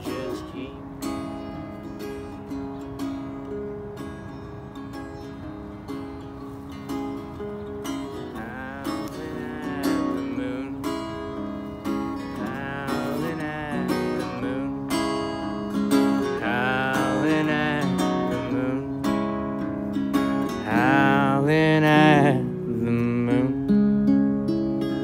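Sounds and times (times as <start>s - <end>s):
country guitar instrumental: 0.0s - 25.0s.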